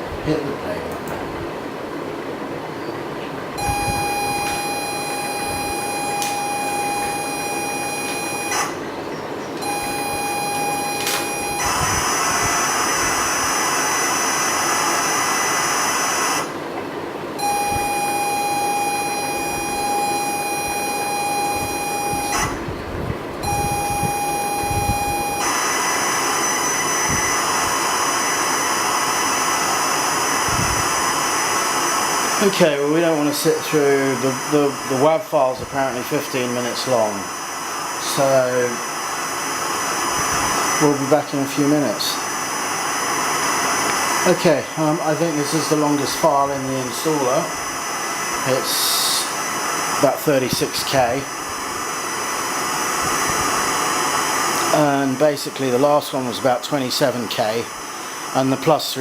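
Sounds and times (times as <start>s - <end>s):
steady high pilot tone: 1.8s - 59.0s
screeching data hiss: 3.6s - 8.8s, 9.5s - 16.6s, 17.4s - 22.6s, 23.5s - 59.0s.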